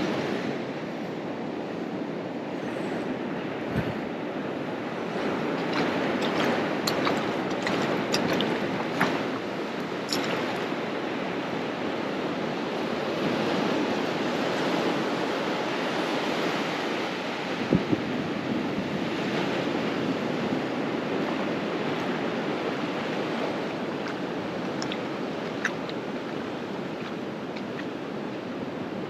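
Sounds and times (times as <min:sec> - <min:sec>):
small waves hissing on sand: 0:02.2 - 0:29.0.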